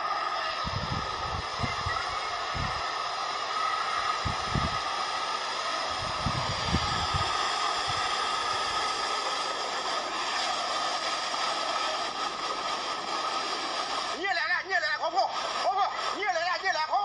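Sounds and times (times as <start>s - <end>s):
flood water rushing: 0.0s - 17.0s.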